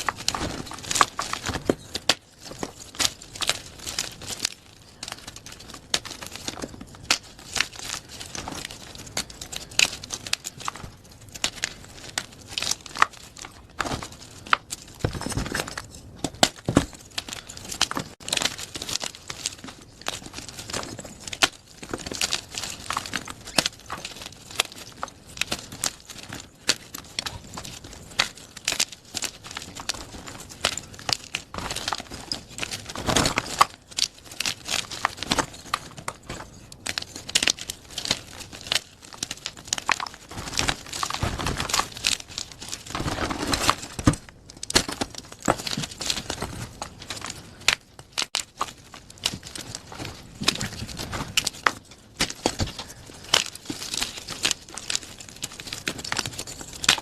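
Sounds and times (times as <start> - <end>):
chalk crunching and crackling: 0.0 - 57.0.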